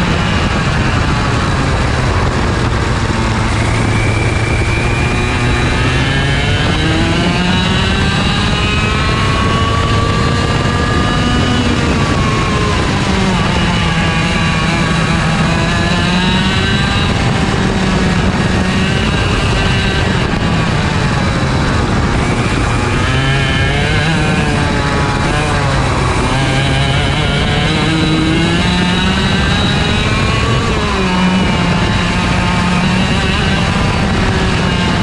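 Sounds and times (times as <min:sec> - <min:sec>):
kart engine revving: 0:00.0 - 0:35.0.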